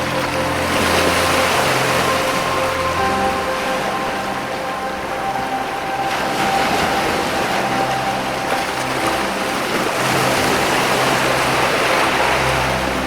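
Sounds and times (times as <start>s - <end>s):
soft background music: 0.0s - 13.0s
waves breaking over rocks: 0.0s - 13.0s.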